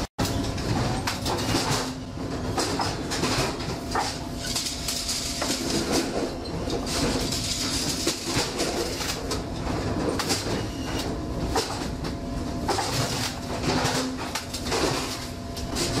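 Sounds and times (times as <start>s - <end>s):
machine clatter and clicks: 0.0s - 16.0s
machine low hum: 0.0s - 16.0s.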